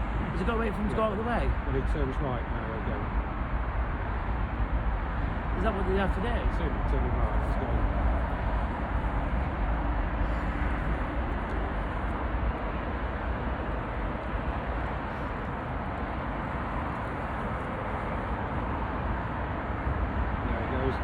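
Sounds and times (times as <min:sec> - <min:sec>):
distant jet engines rumbling: 0:00.0 - 0:21.0
wind on microphone: 0:02.9 - 0:20.4.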